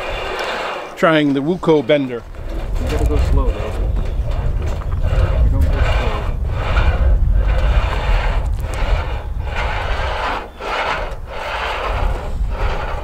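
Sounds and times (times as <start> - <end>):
metal roller scraping: 0.0 - 13.0
low rumble: 2.2 - 13.0.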